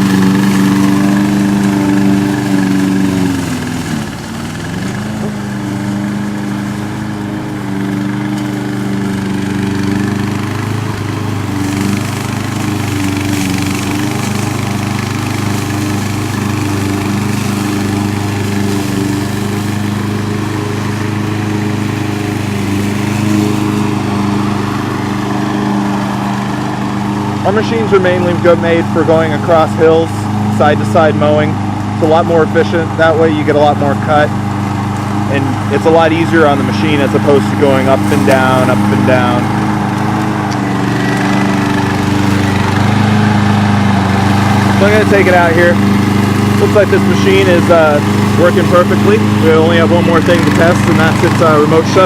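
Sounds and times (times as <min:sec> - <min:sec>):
mower engine running: 0:00.0 - 0:52.0.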